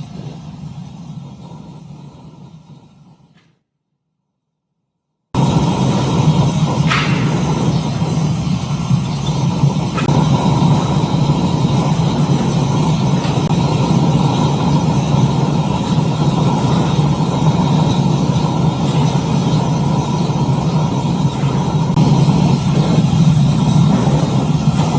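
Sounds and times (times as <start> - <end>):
melting furnace rumbling: 0.0 - 3.4, 5.4 - 24.9.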